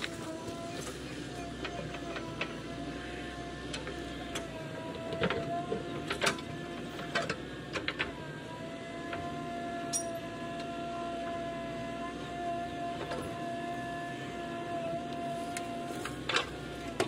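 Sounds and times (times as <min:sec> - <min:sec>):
backhoe engine and hydraulics whine: 0:00.0 - 0:17.0.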